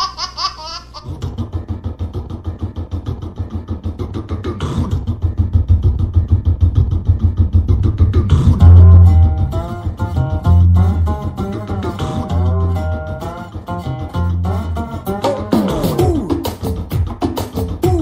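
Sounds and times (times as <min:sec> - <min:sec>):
instrumental dance music: 0:01.1 - 0:18.0.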